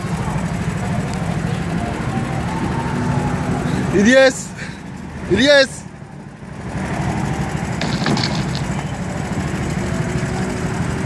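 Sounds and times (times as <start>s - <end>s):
go-kart engines rumbling: 0.0s - 11.0s.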